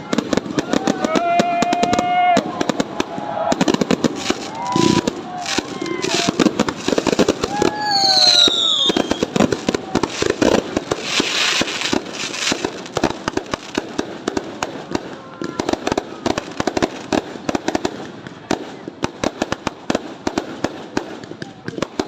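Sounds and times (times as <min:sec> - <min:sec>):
fireworks bangs and crackling: 0:00.0 - 0:22.0
fireworks hiss: 0:02.4 - 0:22.0.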